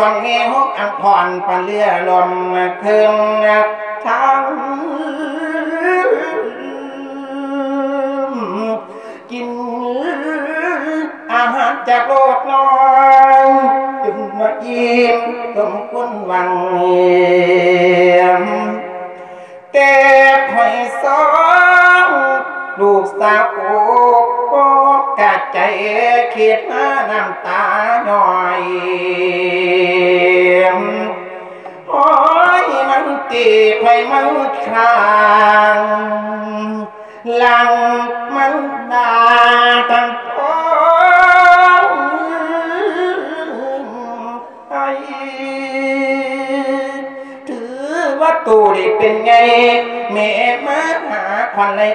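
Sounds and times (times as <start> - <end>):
person chanting into a microphone: 0.0 - 51.9.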